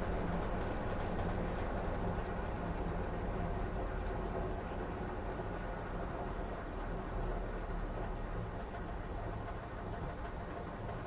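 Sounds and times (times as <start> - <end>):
washing machine rumble and hum: 0.0 - 11.0.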